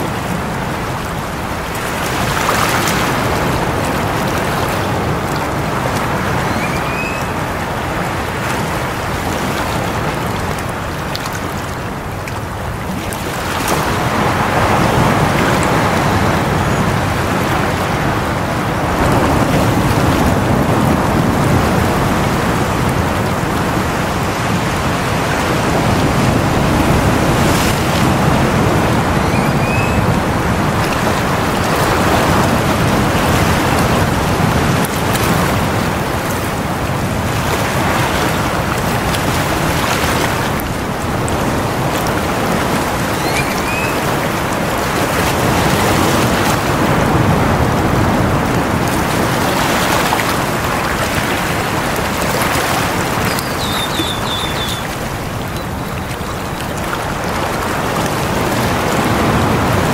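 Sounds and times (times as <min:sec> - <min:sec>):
waves breaking on rocky shore: 0:00.0 - 0:59.9.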